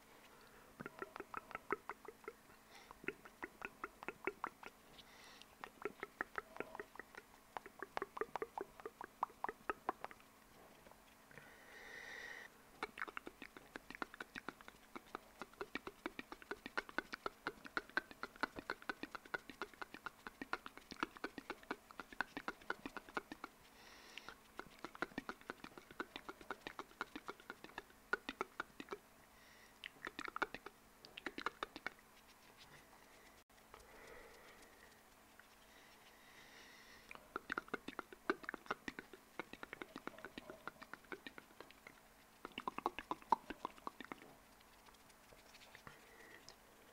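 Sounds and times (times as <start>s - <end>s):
lip and tongue clicks: 0.8s - 4.8s, 5.4s - 11.5s, 12.8s - 29.0s, 29.8s - 46.9s.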